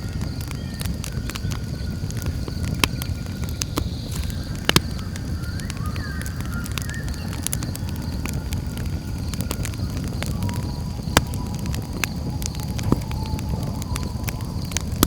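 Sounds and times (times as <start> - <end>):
campfire crackling and popping: 0.0 - 15.0
low rumble of flames: 0.0 - 15.0
night insects buzzing: 0.0 - 15.0.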